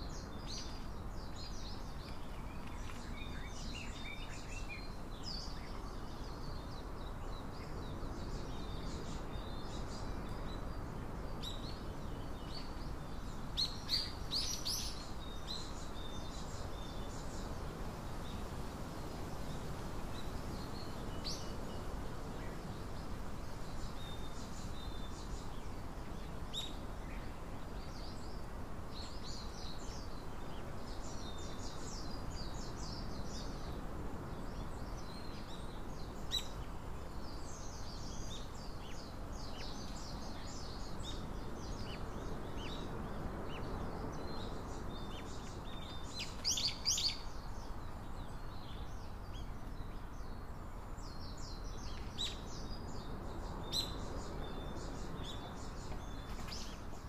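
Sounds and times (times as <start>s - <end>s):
low background noise: 0.0s - 57.0s
small birds chirping: 0.0s - 57.0s.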